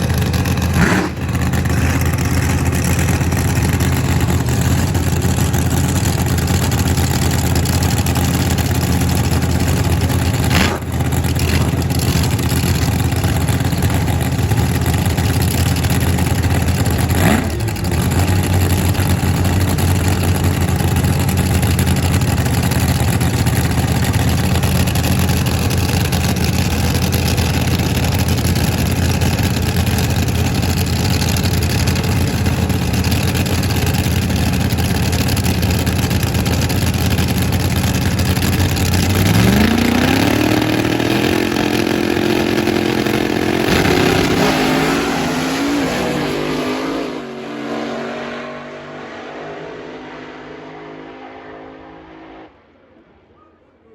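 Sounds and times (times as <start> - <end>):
drag racing car engine: 0.0 - 53.2.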